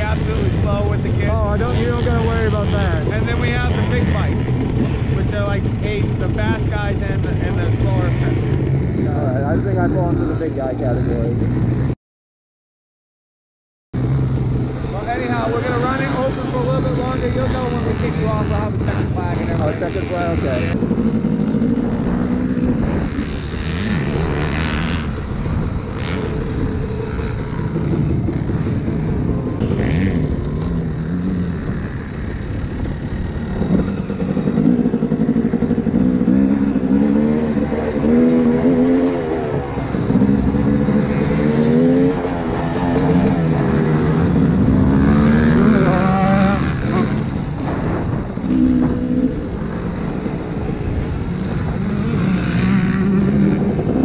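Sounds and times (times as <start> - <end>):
dirt bike engines revving: 0.0 - 12.0, 14.0 - 54.0.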